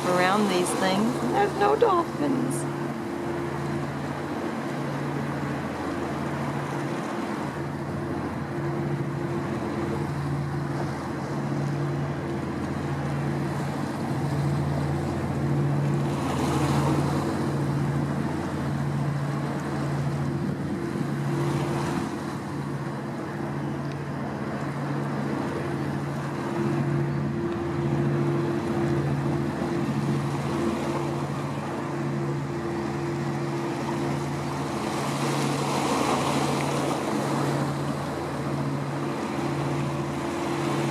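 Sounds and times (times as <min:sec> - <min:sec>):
boat engine droning: 0:00.0 - 0:40.9
waves: 0:00.0 - 0:40.9
wind: 0:00.0 - 0:40.9.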